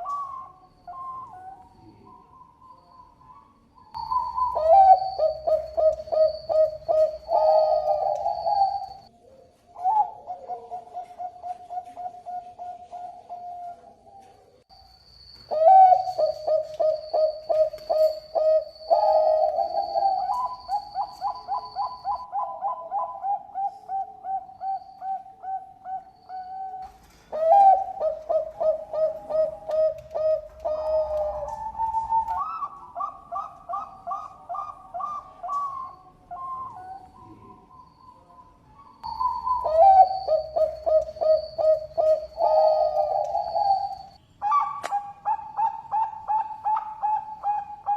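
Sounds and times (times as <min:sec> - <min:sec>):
dove cooing rapidly: 0:00.0 - 0:14.3, 0:15.5 - 0:47.9.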